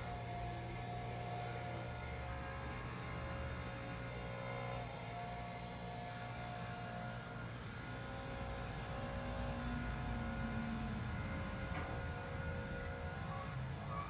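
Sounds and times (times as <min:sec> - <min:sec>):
leaf blower running: 0:00.0 - 0:14.0.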